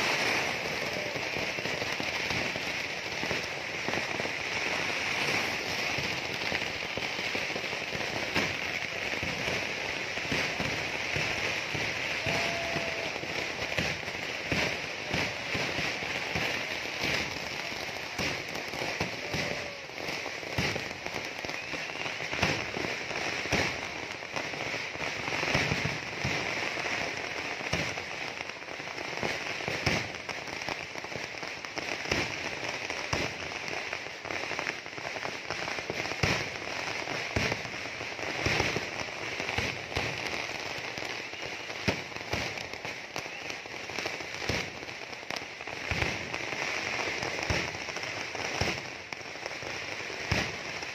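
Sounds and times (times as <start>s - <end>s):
firecrackers crackling: 0.0s - 50.9s
fireworks bangs: 0.0s - 50.9s.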